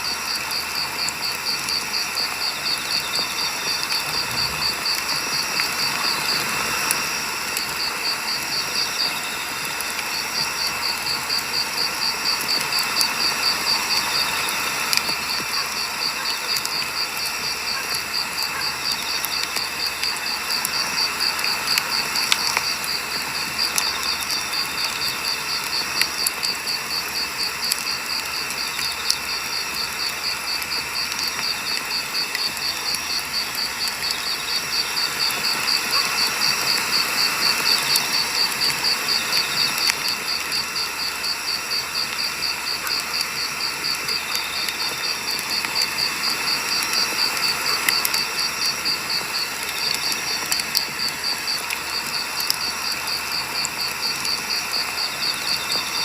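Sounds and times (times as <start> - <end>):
cricket chirping: 0.0 - 56.0
wood fire crackling: 0.1 - 56.0.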